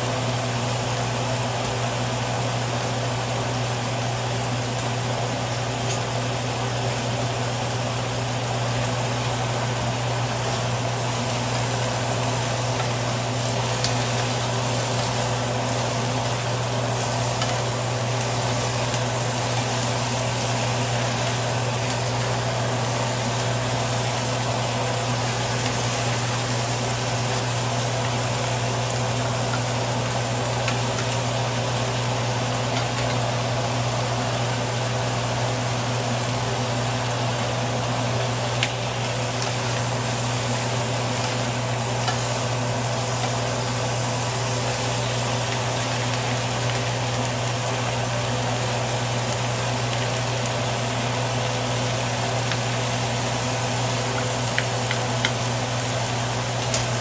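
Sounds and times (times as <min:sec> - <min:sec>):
fish frying sizzle: 0:00.0 - 0:57.0.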